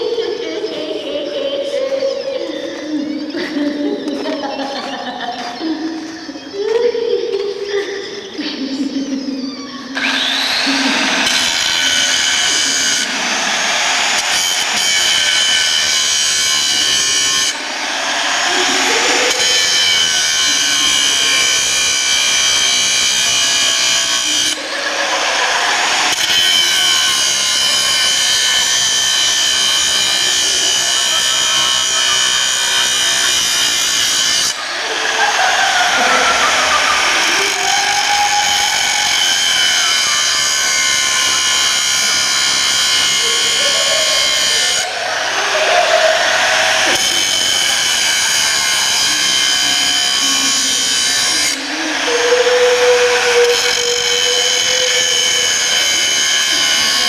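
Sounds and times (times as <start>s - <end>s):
angle grinder grinding steel: 9.9s - 57.0s.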